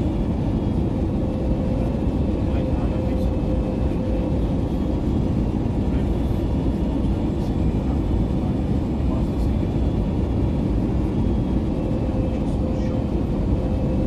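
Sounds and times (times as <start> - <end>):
airliner cabin engine roar: 0.0 - 14.0.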